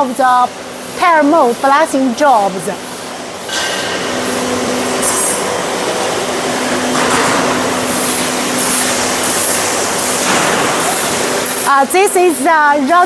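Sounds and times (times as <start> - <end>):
machine hum: 0.0 - 13.0
sandblasting hiss: 0.1 - 12.5.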